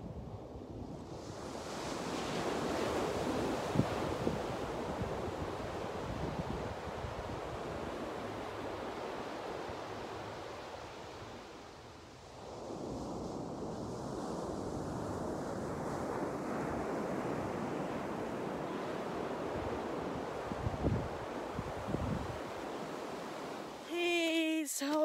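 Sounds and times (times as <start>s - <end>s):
surf washing on sandy beach: 0.5s - 23.9s.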